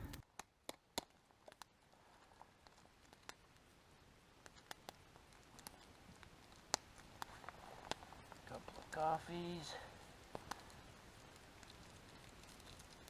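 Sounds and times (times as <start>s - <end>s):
campfire crackles and pops: 0.0s - 13.0s.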